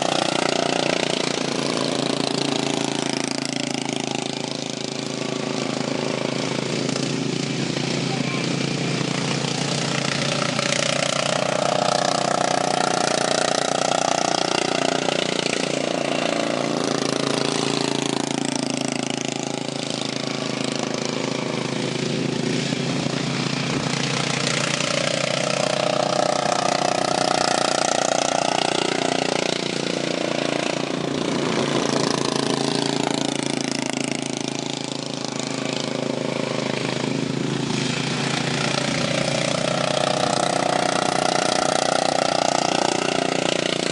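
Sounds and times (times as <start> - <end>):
racing lawn mower engines: 0.0 - 43.9.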